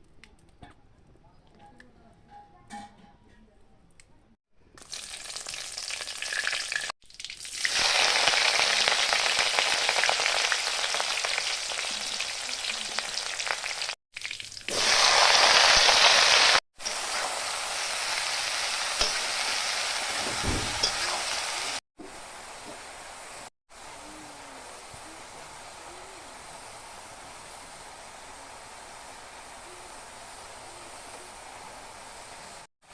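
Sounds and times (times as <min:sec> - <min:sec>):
food sizzling in hot oil: 0:04.8 - 0:32.9.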